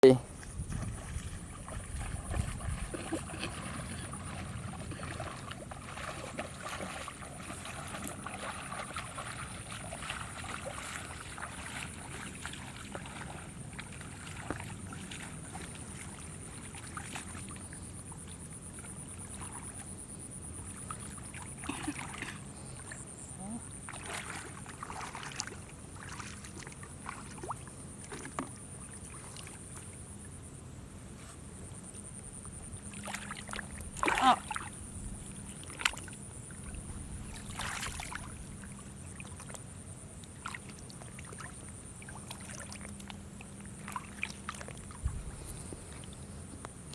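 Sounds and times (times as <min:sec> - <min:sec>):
water sloshing and splashing: 0:00.3 - 0:30.3, 0:32.7 - 0:46.9.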